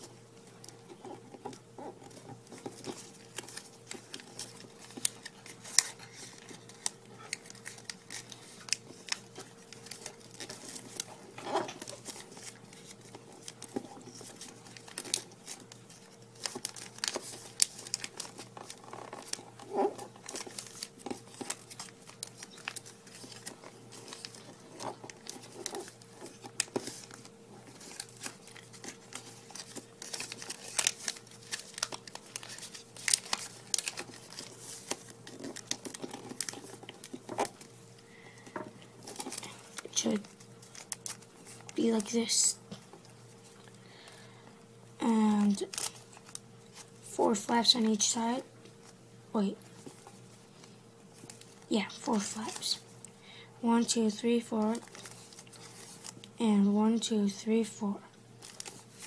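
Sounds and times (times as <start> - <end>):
paper crinkling and crackling: 0.0 - 56.7, 58.3 - 59.0
faint steady hum: 0.0 - 59.0.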